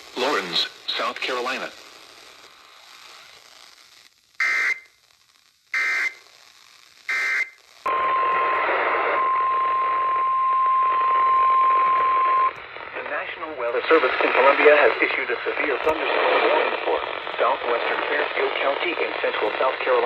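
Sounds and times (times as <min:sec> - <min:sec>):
radio hiss: 0:00.0 - 0:04.8, 0:05.7 - 0:20.0.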